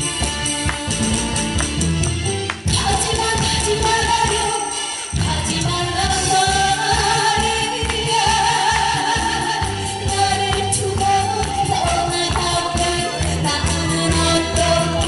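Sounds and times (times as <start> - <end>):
music with steady bass beat: 0.0 - 15.0
woman singing: 2.6 - 15.0.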